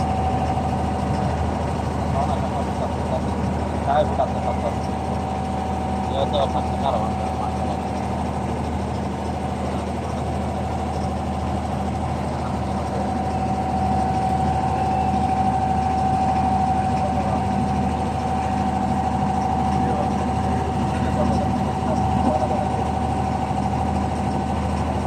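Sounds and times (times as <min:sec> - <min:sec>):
boat diesel engine running: 0:00.0 - 0:25.0.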